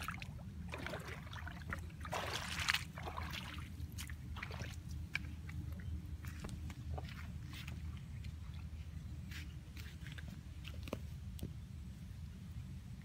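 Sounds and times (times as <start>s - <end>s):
footsteps splashing through water: 0.0s - 11.1s.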